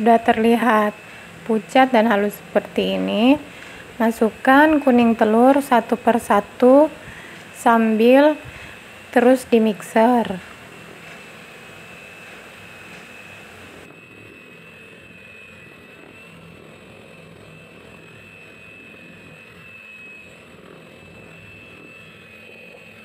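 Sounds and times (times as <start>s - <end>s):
electric hand mixer whine: 0.0s - 23.0s.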